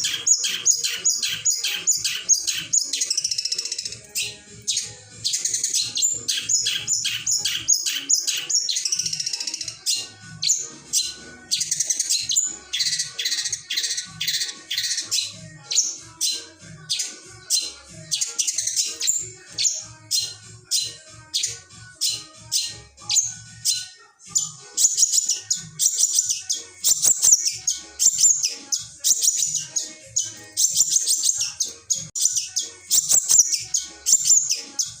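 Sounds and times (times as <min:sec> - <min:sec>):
bird singing harsh chattering notes: 0:00.0 - 0:35.0.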